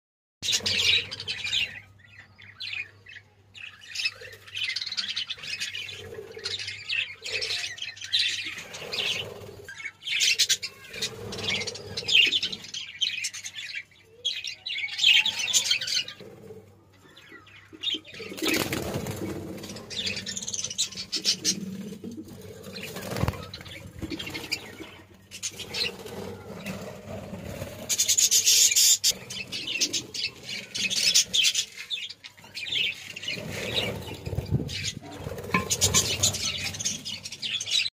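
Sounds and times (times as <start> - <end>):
budgerigars chattering and chirping: 0.4 - 16.3, 17.0 - 22.0, 22.6 - 26.8, 27.9 - 37.9.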